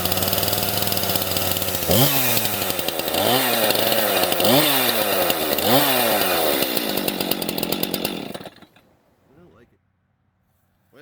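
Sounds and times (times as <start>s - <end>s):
chainsaw revving: 0.0s - 8.9s.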